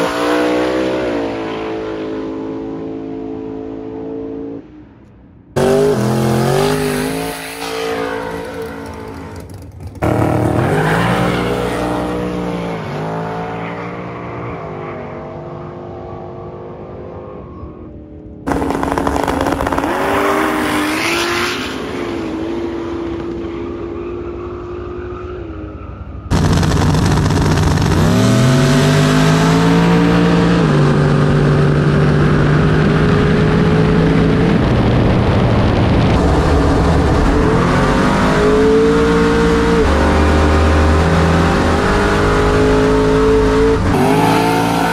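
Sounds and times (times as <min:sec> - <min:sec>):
drag racing car engines revving: 0:00.0 - 0:04.6, 0:05.6 - 0:44.9.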